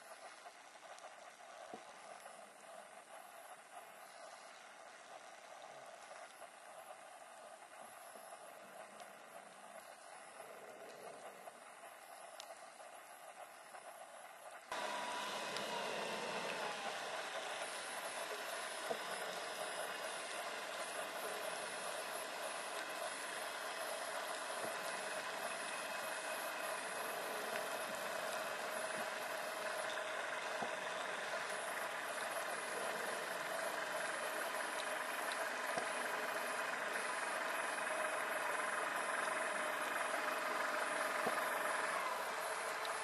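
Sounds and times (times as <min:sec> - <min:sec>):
faint ticks: 0:00.0 - 0:43.0
underwater machine hum and hiss: 0:00.0 - 0:43.0.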